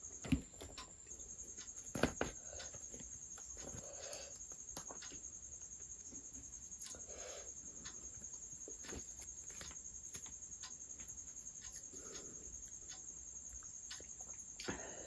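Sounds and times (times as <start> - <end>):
soft chewing and mouth sounds: 2.4 - 15.0.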